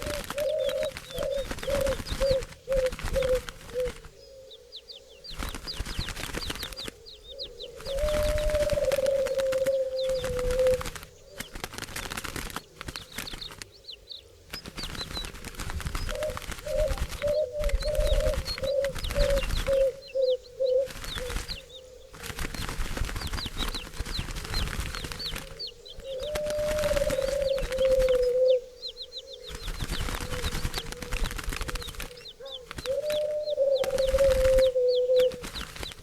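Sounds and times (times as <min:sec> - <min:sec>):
wings flapping: 0:00.0 - 0:04.2, 0:05.2 - 0:28.6, 0:29.4 - 0:36.0
doves cooing: 0:00.0 - 0:13.8, 0:14.6 - 0:36.0
background noise: 0:00.0 - 0:36.0
small birds chirping: 0:00.0 - 0:36.0.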